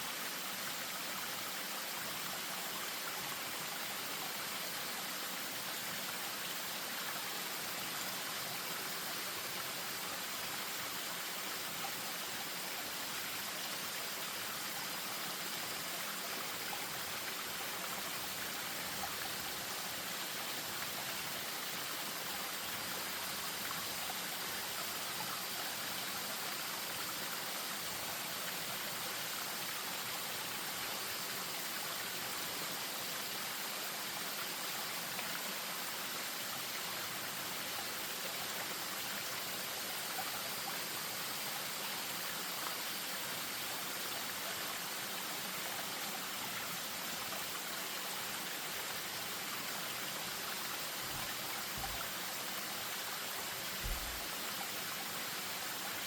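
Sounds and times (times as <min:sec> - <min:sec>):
stream over small waterfall: 0:00.0 - 0:56.0.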